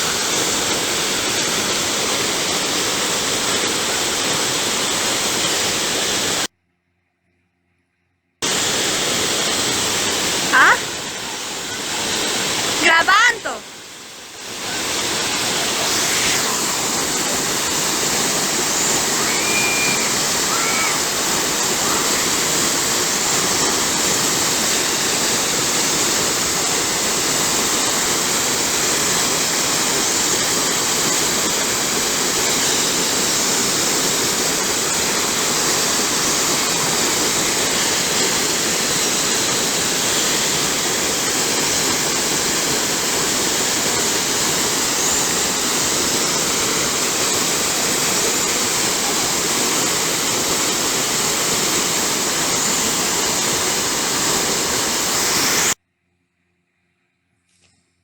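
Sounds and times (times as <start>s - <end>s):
waterfall roaring: 0.0s - 6.5s, 8.4s - 55.8s.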